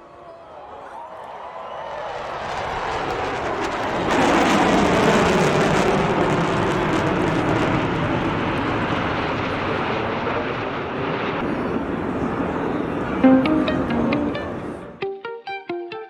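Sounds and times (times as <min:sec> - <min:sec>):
aircraft engine roar passing overhead: 0:02.1 - 0:15.0.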